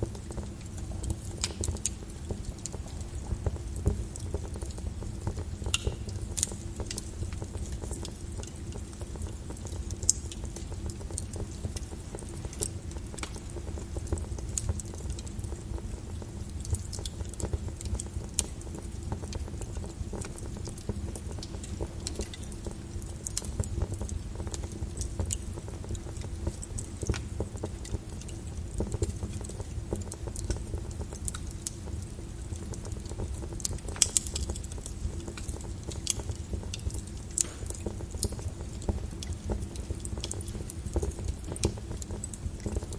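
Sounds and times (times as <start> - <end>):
rain on a window: 0.0 - 42.9
wood fire crackling: 0.0 - 42.9.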